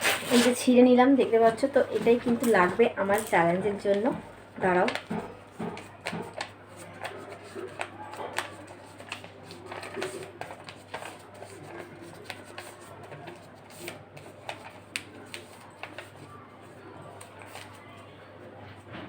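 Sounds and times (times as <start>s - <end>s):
paper crumpling: 0.0s - 0.6s, 1.4s - 18.0s.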